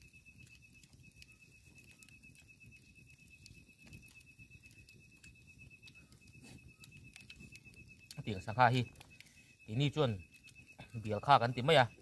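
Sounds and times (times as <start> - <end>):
night insects trilling: 0.9 - 12.0.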